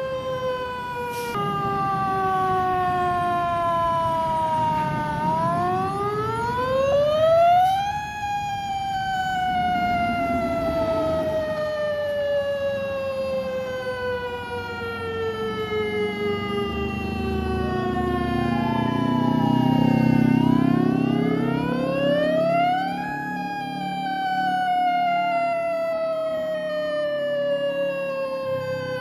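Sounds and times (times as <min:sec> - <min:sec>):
fire engine siren wailing: 0:00.0 - 0:29.0
truck engine rumble: 0:00.1 - 0:29.0.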